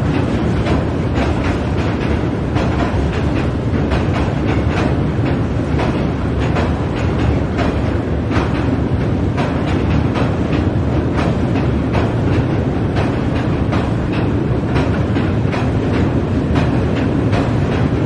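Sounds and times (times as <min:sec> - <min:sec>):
train rumbling over steel bridge: 0:00.0 - 0:18.0
wheels clacking over rail joints: 0:00.0 - 0:18.0.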